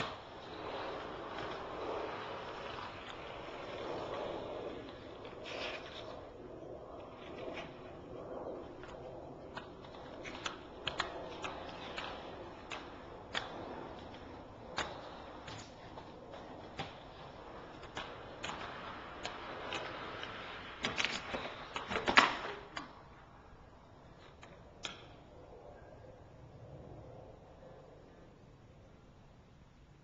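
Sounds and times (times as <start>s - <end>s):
skate clacks and knocks: 0.0s - 25.3s
inline skate wheels rolling: 0.0s - 30.0s.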